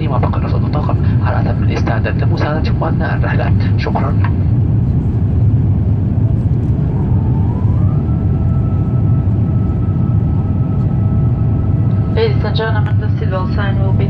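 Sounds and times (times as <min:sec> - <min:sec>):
aircraft cabin engine drone: 0:00.0 - 0:14.0.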